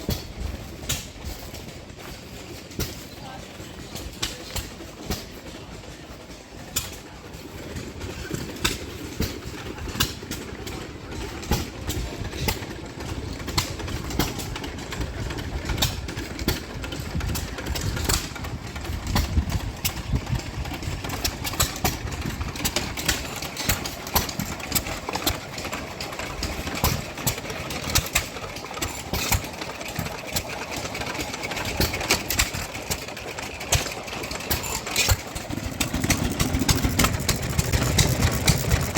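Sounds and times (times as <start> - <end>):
engine clicks and knocks: 0.0 - 38.9
gas engines rumbling: 0.0 - 38.9.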